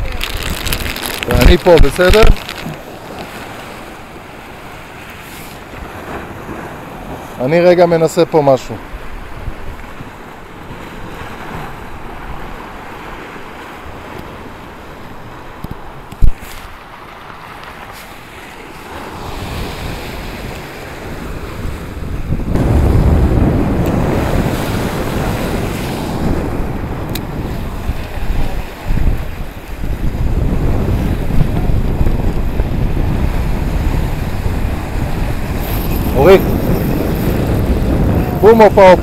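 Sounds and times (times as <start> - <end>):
wind buffeting microphone: 0.0 - 7.4, 8.8 - 14.6, 18.8 - 39.0
sea waves washing against rocks: 0.0 - 39.0.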